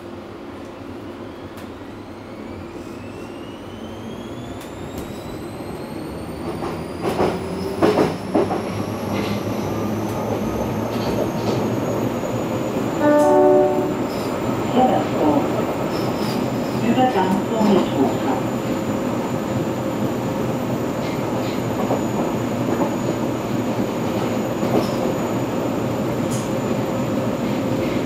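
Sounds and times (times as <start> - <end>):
train drive whine: 0.0 - 28.0
train rolling noise: 0.0 - 28.0.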